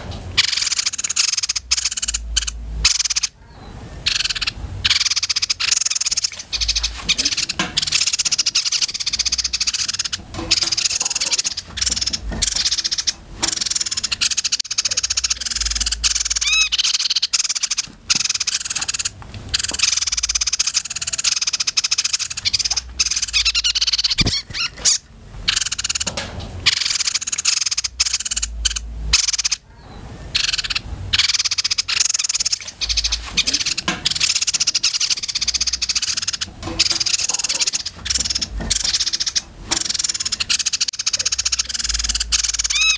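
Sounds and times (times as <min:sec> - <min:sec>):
songbirds buzzy high-pitched chatter: 0:00.0 - 0:42.9.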